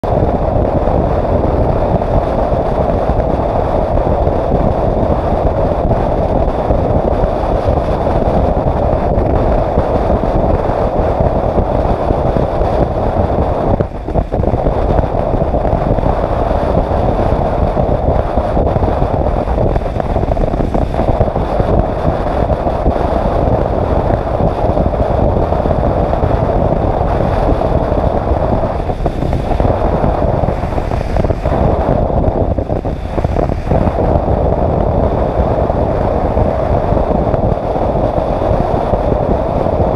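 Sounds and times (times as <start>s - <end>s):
motorcycle engine and tyres cruising: 0.0s - 39.9s
wind on microphone: 0.0s - 39.9s.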